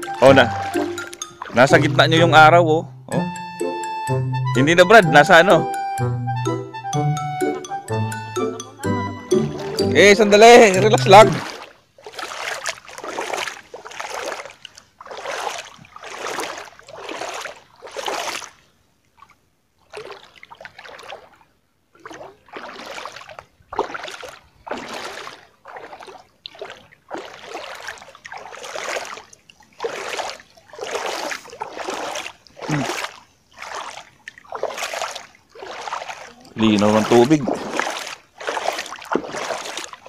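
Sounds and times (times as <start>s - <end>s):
legs wading through shallow water: 0.0s - 2.6s, 9.4s - 40.0s.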